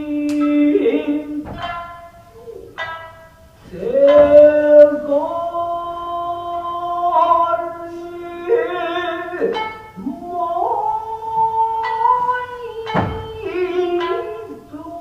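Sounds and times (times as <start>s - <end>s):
person singing long wavering notes: 0.0s - 15.0s
plucked shamisen: 0.0s - 15.0s.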